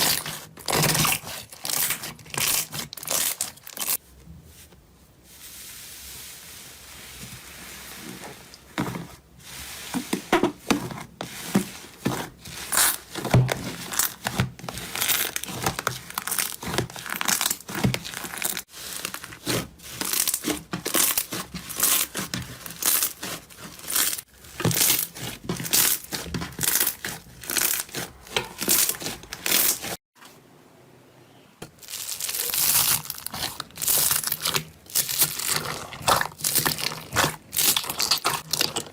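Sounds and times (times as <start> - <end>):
slime crackling and squishing: 0.0 - 4.6, 5.3 - 30.0, 31.6 - 38.9.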